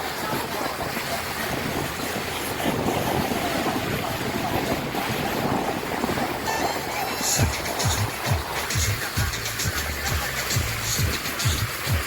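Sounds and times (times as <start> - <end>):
boat engine hum: 0.0 - 12.0
water noise: 0.0 - 12.0
wind on microphone: 0.0 - 12.0.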